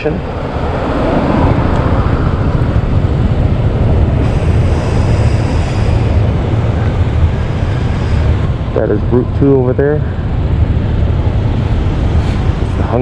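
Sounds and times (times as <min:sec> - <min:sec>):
city traffic: 0:00.0 - 0:13.0
wind rumble on microphone: 0:00.0 - 0:13.0.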